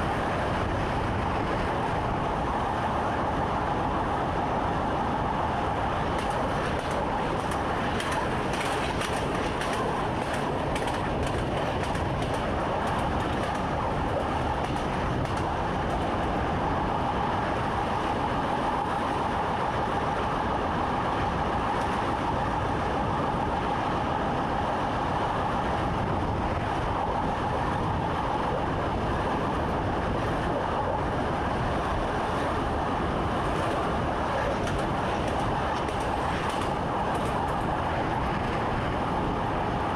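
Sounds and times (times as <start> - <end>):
train rolling rumble: 0.0 - 39.9.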